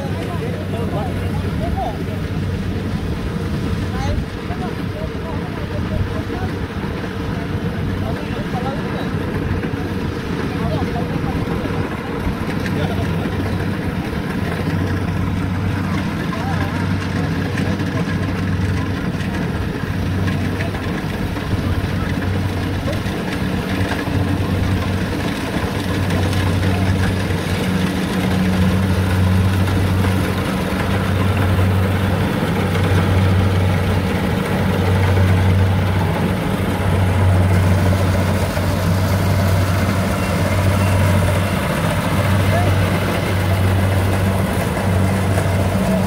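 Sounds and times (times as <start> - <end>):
combine harvester engine running: 0.0 - 46.0.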